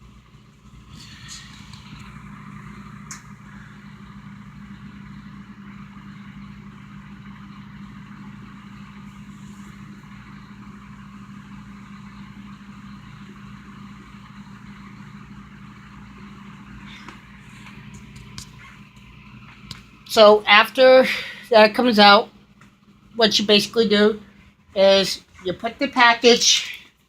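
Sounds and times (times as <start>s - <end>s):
microwave oven hum: 0.0s - 27.0s.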